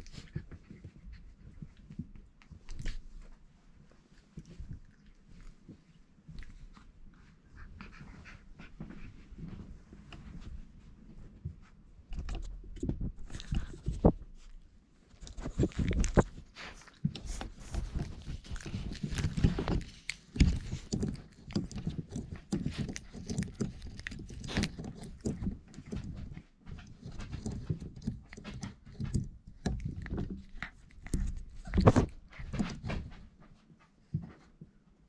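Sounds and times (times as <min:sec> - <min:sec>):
puppies scuffling and pawing: 0:00.0 - 0:34.8.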